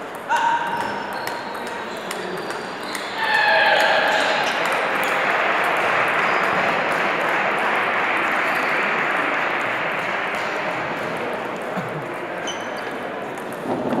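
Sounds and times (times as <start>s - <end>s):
table tennis balls clicking: 0.0s - 14.0s.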